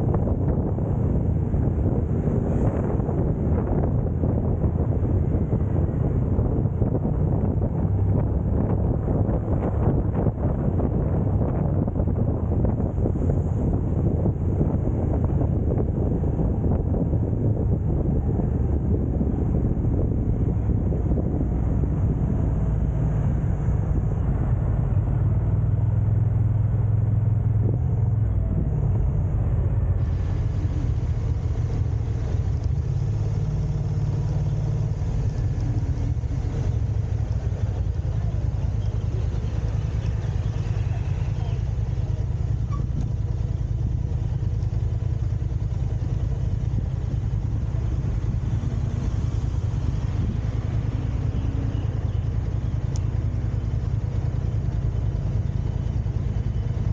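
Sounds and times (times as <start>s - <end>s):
car driving rumble: 0.0s - 56.9s.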